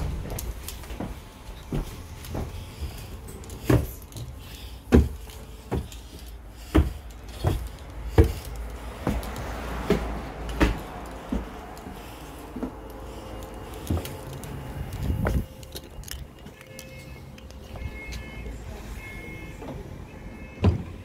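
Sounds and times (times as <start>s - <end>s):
footsteps walking: 0.0s - 19.8s
bus engine rumble: 0.0s - 21.0s.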